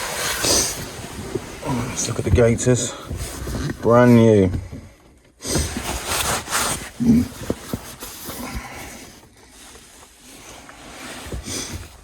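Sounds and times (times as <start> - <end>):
rustling inside car: 0.0 - 4.6, 5.5 - 12.0.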